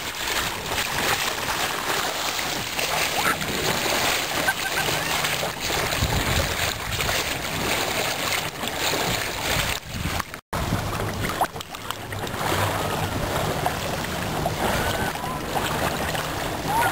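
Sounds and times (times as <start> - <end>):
low rumble of wind: 0.0 - 16.9
water rushing along a hull: 0.0 - 16.9.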